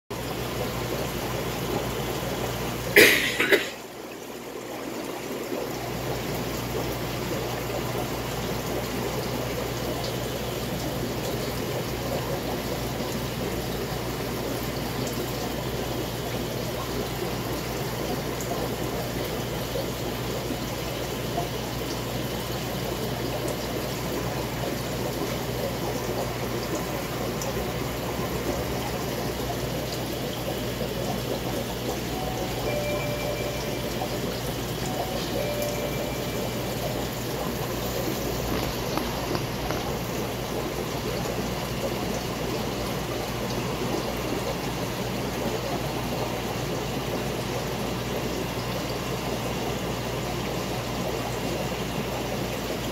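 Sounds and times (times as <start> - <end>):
aquarium water trickling: 0.1 - 52.9
filter pump hum: 0.1 - 52.9.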